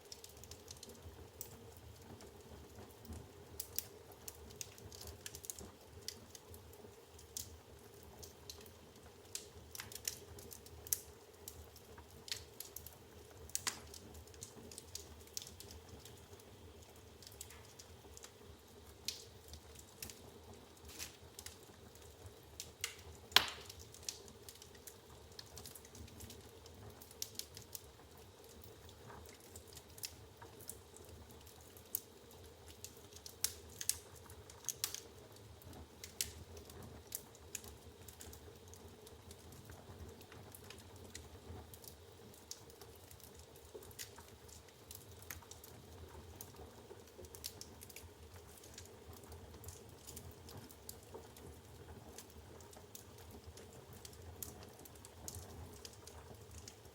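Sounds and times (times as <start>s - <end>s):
firewood crackling and popping: 0.0s - 56.9s.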